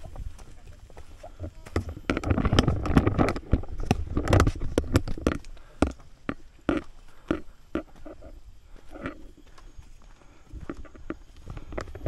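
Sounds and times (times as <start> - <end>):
footsteps crunching on trail: 0.0 - 12.0.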